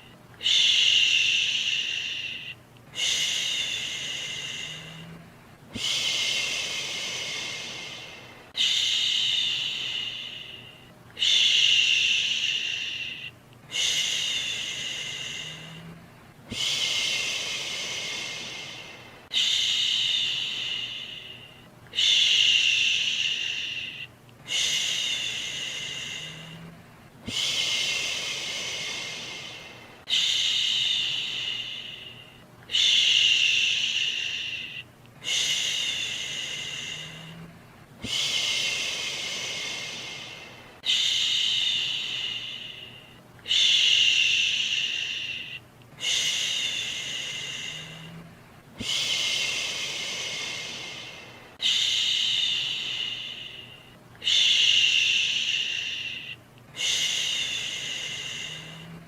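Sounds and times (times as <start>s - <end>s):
faint steady hiss: 0.0s - 59.0s
person shushing: 0.0s - 59.0s.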